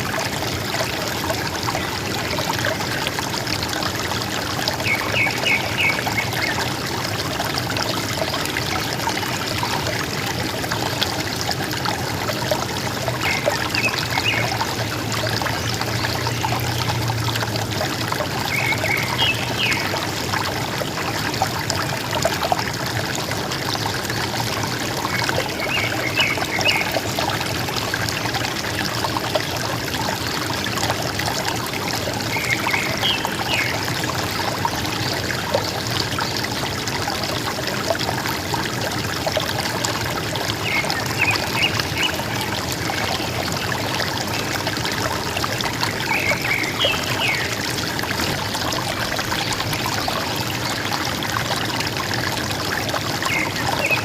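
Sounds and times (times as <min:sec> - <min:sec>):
river trickling and burbling: 0:00.0 - 0:54.0.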